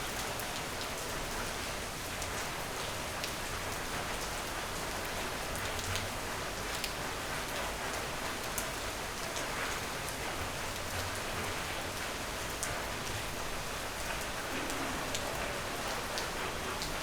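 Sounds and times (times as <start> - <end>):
raindrops ticking on a surface: 0.0 - 17.0
steady rain hiss: 0.0 - 17.0.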